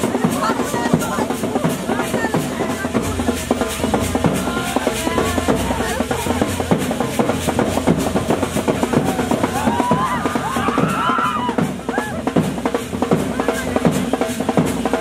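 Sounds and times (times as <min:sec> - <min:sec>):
fast driving drum beat: 0:00.0 - 0:15.0.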